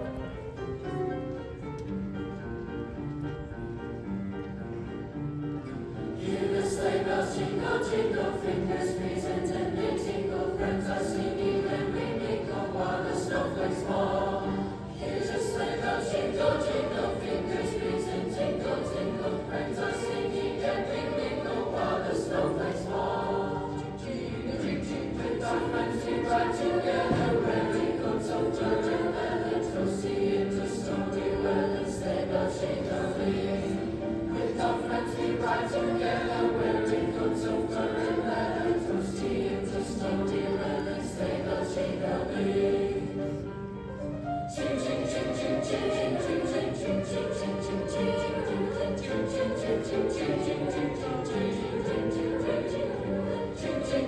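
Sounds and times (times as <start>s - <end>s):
youth choir singing: 6.0s - 43.5s, 44.5s - 54.0s.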